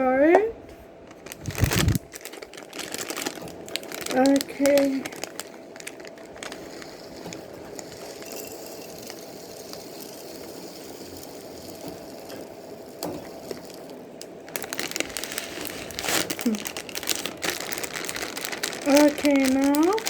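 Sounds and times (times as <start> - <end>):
bird seed rustling: 1.1 - 12.1, 13.0 - 20.0.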